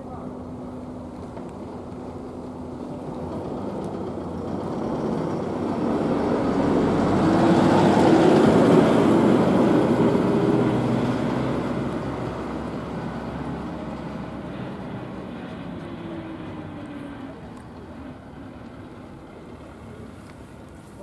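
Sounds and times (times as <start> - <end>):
vehicle passing by rumbling: 2.3 - 19.3.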